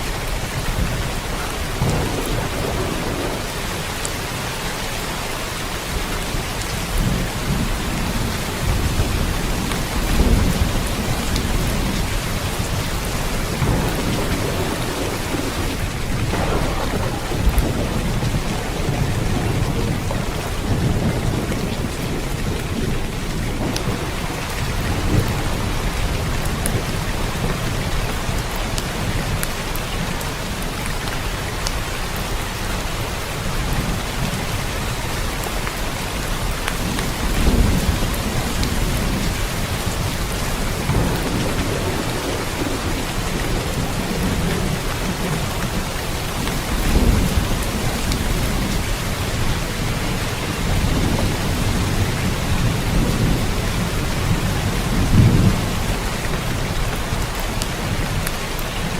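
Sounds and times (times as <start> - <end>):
low thunder rumbles: 0.0 - 30.6, 32.9 - 58.9
steady rain: 0.0 - 58.9.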